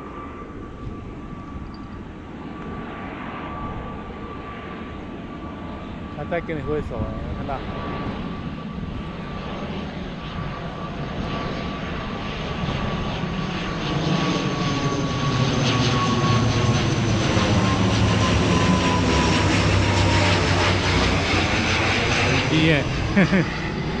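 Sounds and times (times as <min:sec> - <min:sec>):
airplane flying low overhead: 0:00.0 - 0:24.0.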